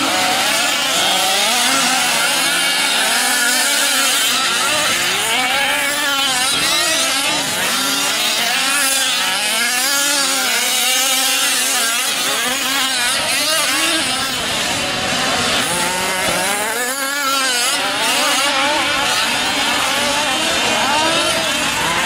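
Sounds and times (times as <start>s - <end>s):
small two-stroke engines revving: 0.0s - 22.0s.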